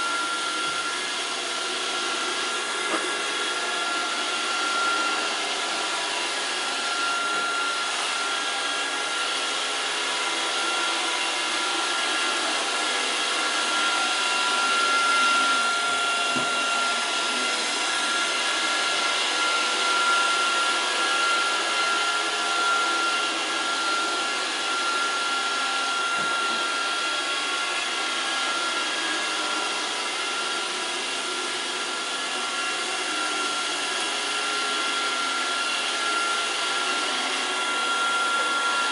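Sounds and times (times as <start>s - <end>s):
robot vacuum running: 0.0s - 38.9s.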